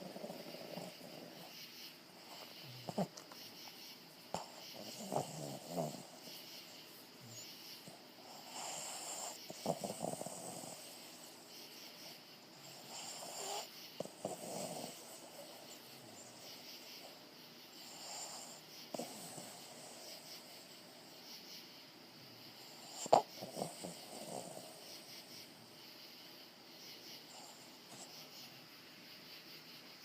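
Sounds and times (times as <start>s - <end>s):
dog snoring: 0.0s - 17.2s, 17.8s - 21.4s, 22.5s - 25.5s, 27.0s - 28.5s.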